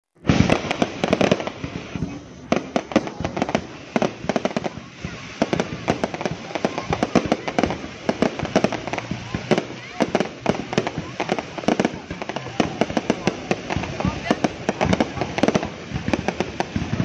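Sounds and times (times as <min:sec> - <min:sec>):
fireworks bangs and crackling: 0:00.1 - 0:17.0.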